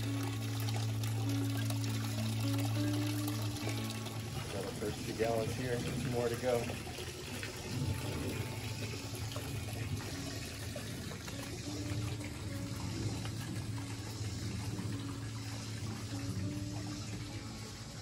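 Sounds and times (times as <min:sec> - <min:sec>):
spring water running: 0:00.0 - 0:18.0.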